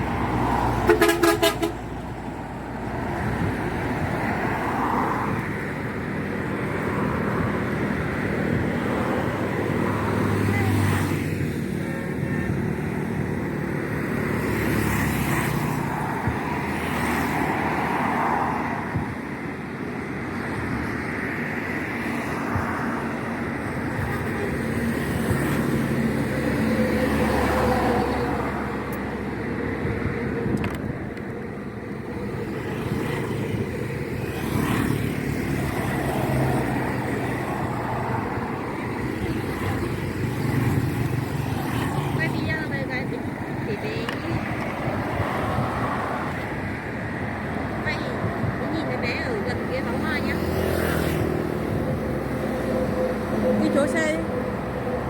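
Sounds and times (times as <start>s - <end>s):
passing vehicle engines and tyres: 0.0s - 55.0s.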